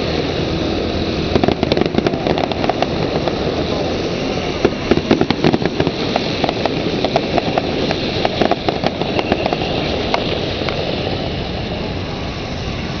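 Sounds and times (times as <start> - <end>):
fireworks crackling: 0.0 - 13.0
steady background noise: 0.0 - 13.0.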